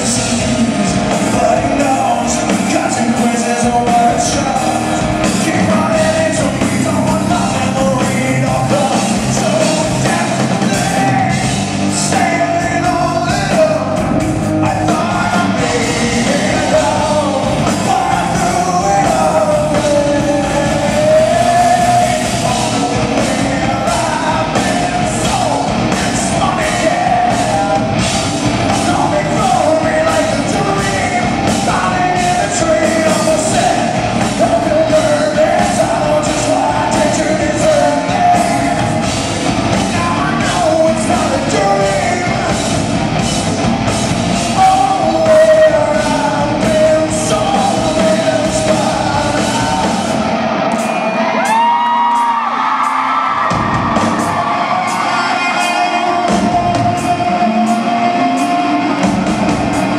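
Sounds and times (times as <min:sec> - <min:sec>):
drum kit beat: 0:00.0 - 0:59.9
live rock band playing: 0:00.0 - 0:59.9
man singing lead: 0:00.0 - 0:59.9.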